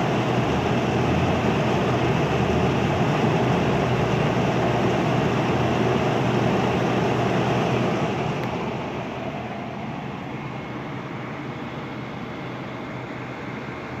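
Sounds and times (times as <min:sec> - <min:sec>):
air conditioner blower rushing: 0:00.0 - 0:14.0.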